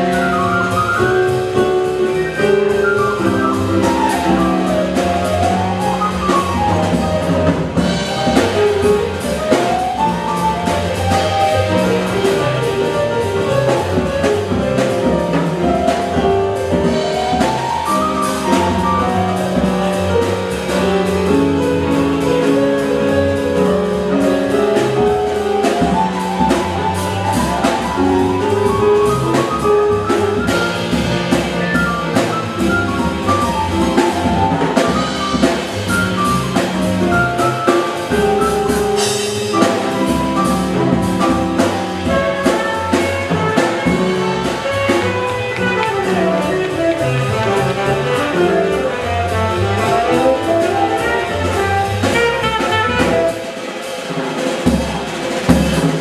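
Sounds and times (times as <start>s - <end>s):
upright bass: 0.0s - 53.3s
drum kit with cymbals: 0.0s - 56.0s.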